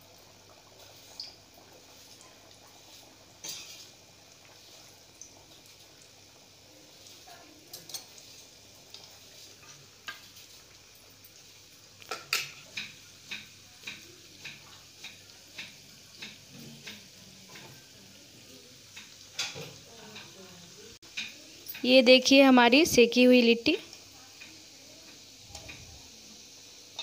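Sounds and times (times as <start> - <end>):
dough deep-frying in hot oil: 0.0 - 27.0.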